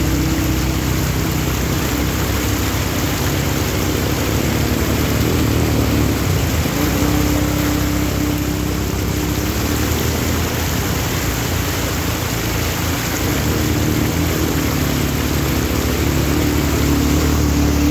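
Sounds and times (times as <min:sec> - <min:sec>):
quad bike engines running: 0:00.0 - 0:17.9
water rushing and splashing: 0:00.0 - 0:17.9.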